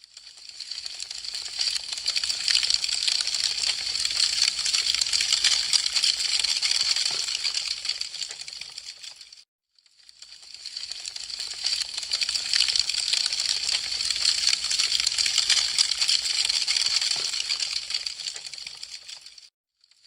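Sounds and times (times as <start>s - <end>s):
wood fire crackling: 0.2s - 9.4s, 10.2s - 19.5s.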